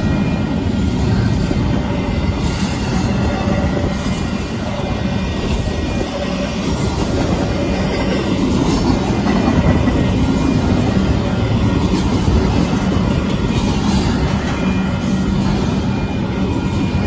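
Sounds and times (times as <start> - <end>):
freight train wheels rolling: 0.0 - 17.0.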